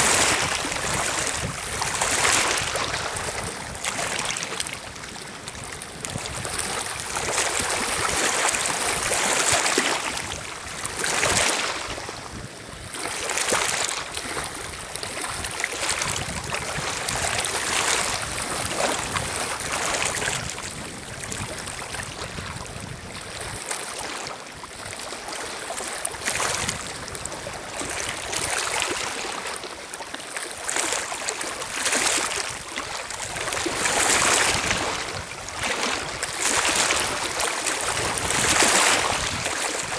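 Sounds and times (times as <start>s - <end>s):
waves lapping on stony shore: 0.0s - 39.9s.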